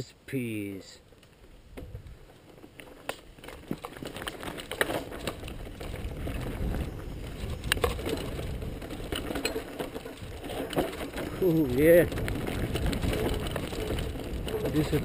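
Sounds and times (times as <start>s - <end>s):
bike tyres rumbling on dirt: 1.3s - 15.0s
bike knocks and rattles: 1.7s - 15.0s.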